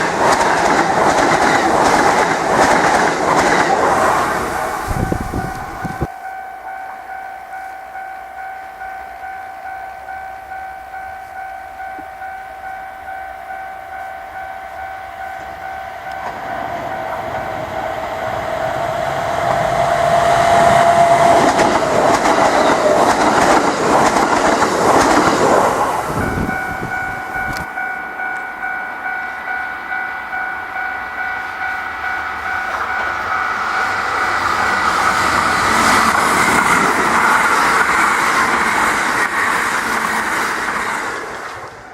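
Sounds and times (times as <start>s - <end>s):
trains running over crossing: 0.0s - 41.9s
level crossing warning bell: 4.2s - 39.3s.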